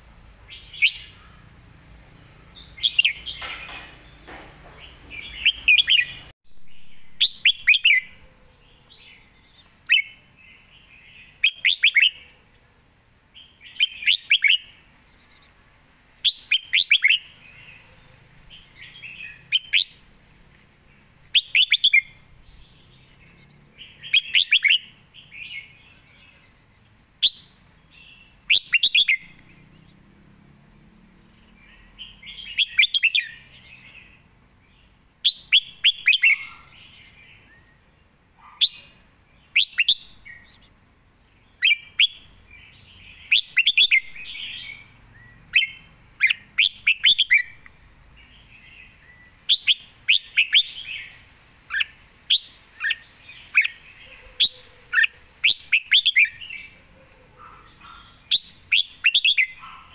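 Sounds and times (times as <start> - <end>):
bulbul singing: 0.0 - 12.4, 13.3 - 59.9.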